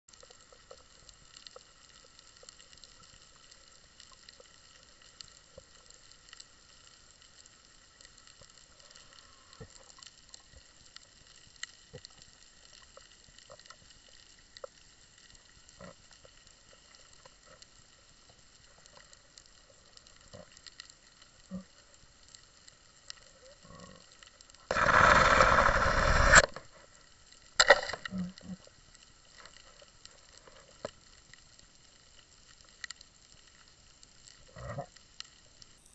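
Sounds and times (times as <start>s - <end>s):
underwater crackles and clicks: 0.1s - 35.9s.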